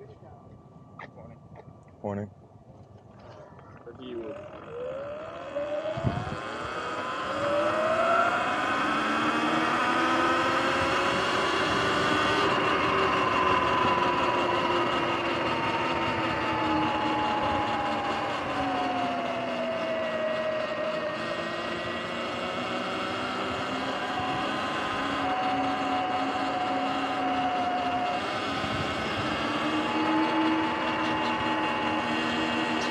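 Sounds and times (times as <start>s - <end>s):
electric motor whining: 3.1s - 32.9s.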